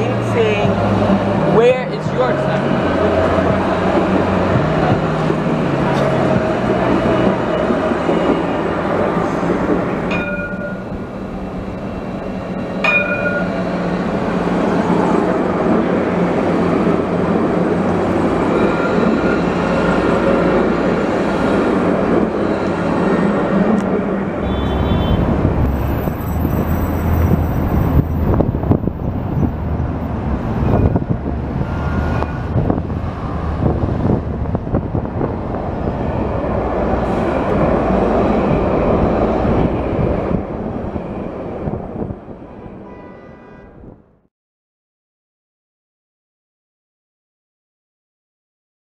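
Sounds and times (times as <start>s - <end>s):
trams passing by: 0.0s - 44.1s
street sounds: 0.0s - 44.3s.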